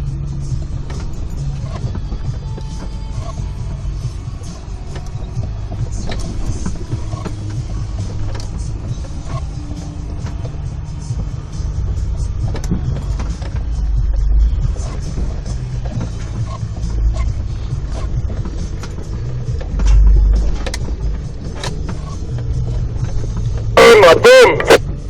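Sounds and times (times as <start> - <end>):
knocks and clunks: 0.0 - 24.8
engine running at low speed: 0.0 - 25.0.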